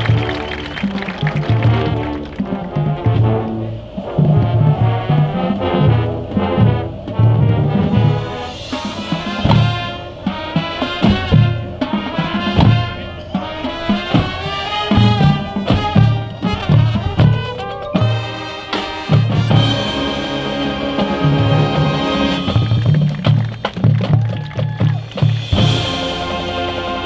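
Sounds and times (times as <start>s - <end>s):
brass section playing chords: 0.0s - 23.7s, 25.4s - 27.0s
marching drum hits: 0.0s - 27.0s.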